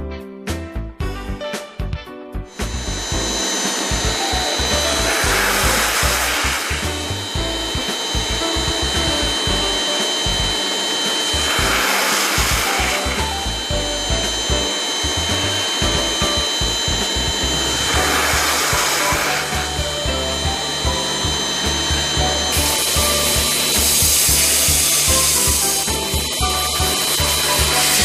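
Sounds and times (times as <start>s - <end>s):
background music: 0.0s - 28.0s
machine motor whine: 2.5s - 28.0s
hissing spray noise: 2.6s - 28.0s.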